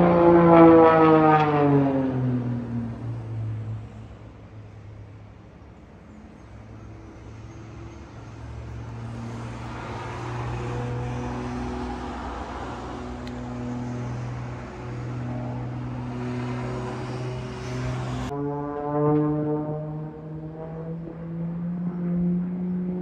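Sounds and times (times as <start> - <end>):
aircraft engine noise: 0.0 - 23.0.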